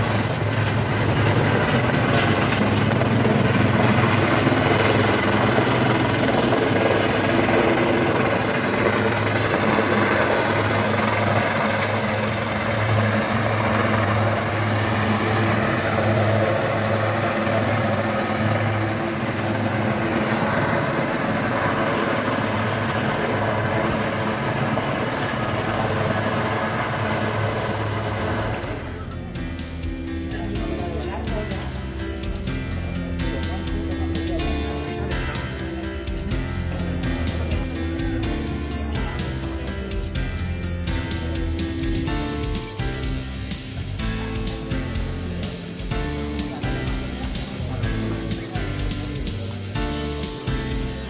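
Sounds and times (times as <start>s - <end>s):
distant helicopter rotor and engines: 0.0s - 51.0s.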